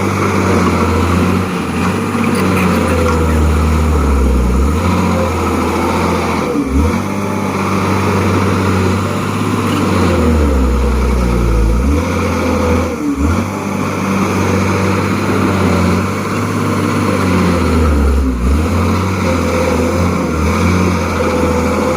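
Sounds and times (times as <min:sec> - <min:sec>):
bulldozer diesel engine under load: 0:00.0 - 0:21.9.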